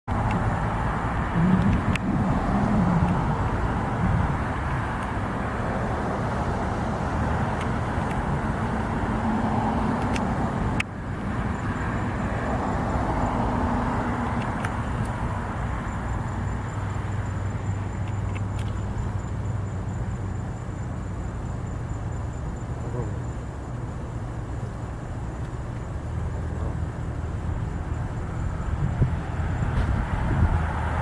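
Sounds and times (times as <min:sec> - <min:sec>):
outdoor background rumble and hiss: 0:00.1 - 0:31.0.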